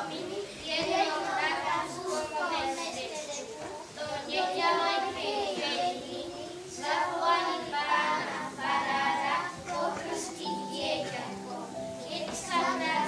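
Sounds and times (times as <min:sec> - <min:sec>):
children singing into microphones: 0:00.0 - 0:13.0.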